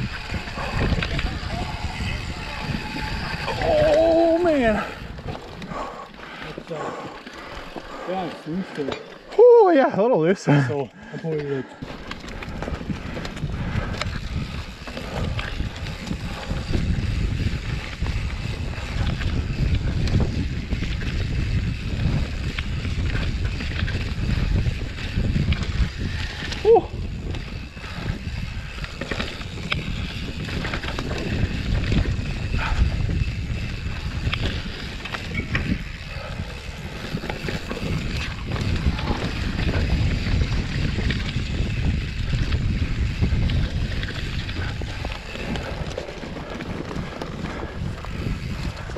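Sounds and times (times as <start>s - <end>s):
wind buffeting microphone: 0.0s - 9.6s, 11.8s - 48.9s
mountain bike rattling over dirt: 0.0s - 48.9s.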